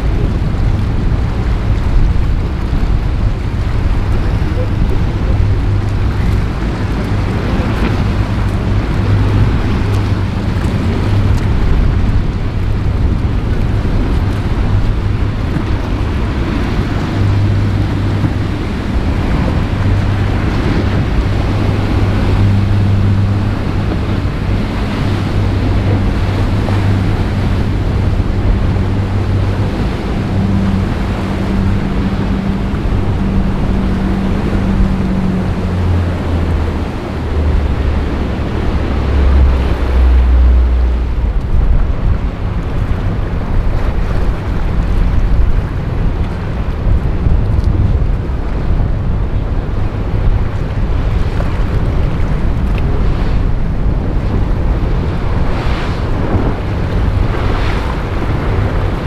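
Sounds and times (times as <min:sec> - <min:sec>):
boat engines droning: 0:00.0 - 0:59.0
rushing wash of waves: 0:00.0 - 0:59.0
wind buffeting microphone: 0:00.0 - 0:59.0.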